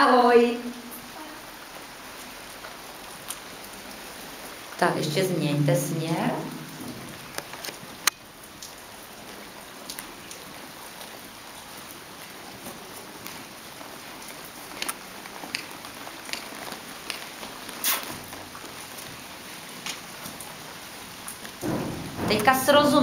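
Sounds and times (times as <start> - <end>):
rain-like hiss: 0.0 - 23.0.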